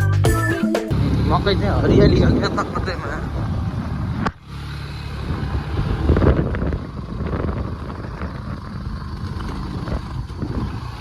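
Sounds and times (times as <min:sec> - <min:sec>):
vehicle engine on dirt road: 0:00.9 - 0:11.0.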